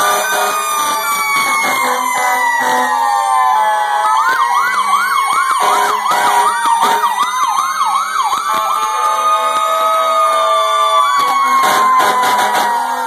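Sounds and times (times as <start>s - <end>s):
fast yelp siren: 0.0s - 13.0s
wailing sirens: 0.0s - 13.0s.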